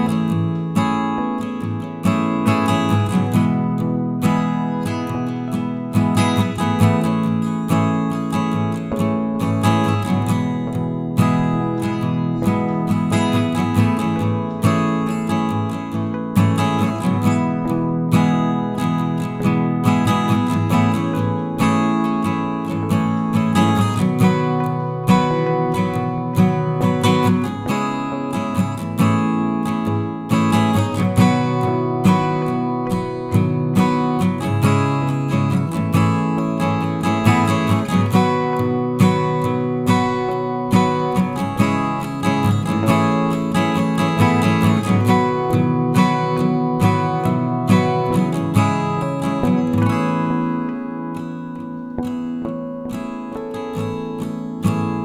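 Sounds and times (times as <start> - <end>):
strummed acoustic guitar: 0.0 - 55.0.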